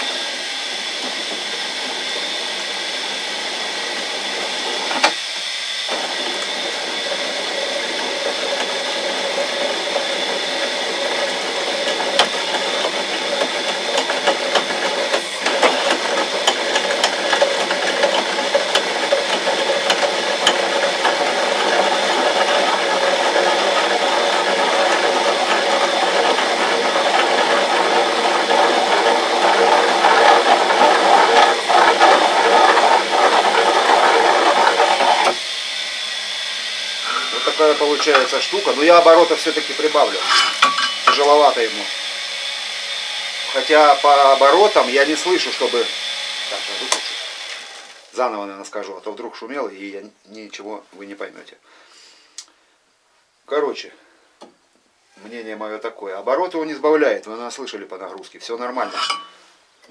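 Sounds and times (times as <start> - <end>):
drill bit grinding into steel: 0.0 - 48.1, 58.6 - 59.5
drill press motor whine: 0.0 - 48.2.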